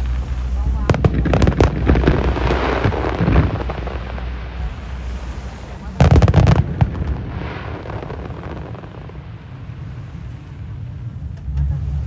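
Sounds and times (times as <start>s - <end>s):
firework crackle: 0.0s - 10.9s
wind rumble on microphone: 0.0s - 12.0s.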